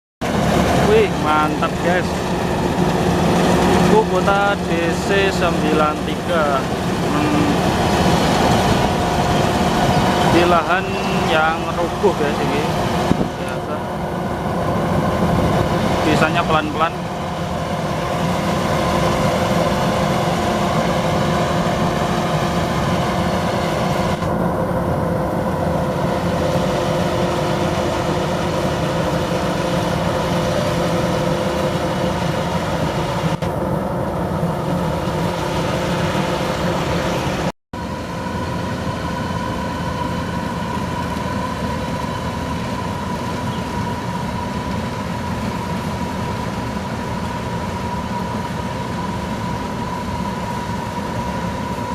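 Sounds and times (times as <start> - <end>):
combine harvester engine drone: 0.2 - 51.9
machinery whining tones: 0.2 - 51.9.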